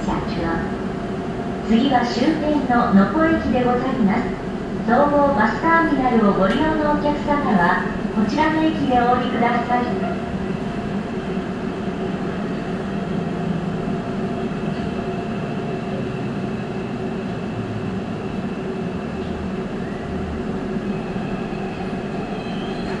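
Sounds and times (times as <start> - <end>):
train wheels rumbling on track: 0.0 - 23.0.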